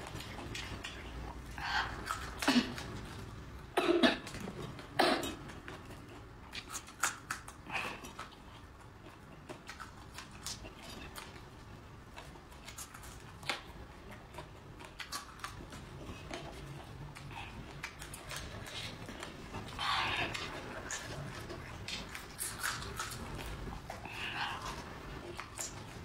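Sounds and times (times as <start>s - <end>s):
chewing clicks and mouth sounds: 0.0s - 3.5s, 4.2s - 26.0s.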